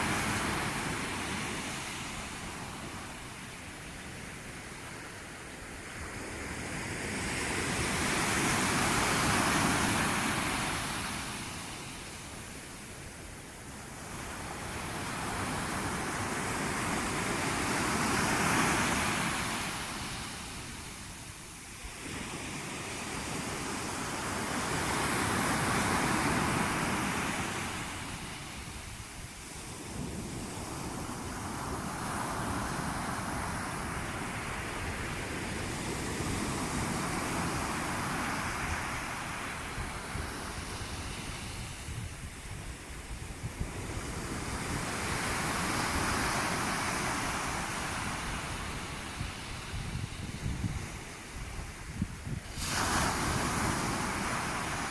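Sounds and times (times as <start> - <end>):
sea waves surging and washing back: 0.0 - 54.9.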